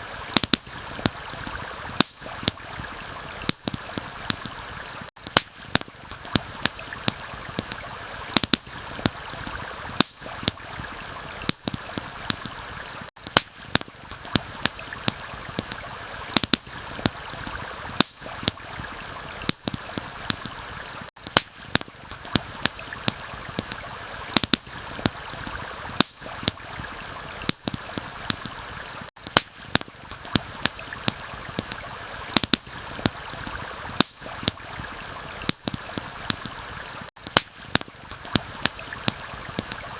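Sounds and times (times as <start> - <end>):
campfire crackling and popping: 0.0 - 39.9
flowing stream: 0.0 - 39.9.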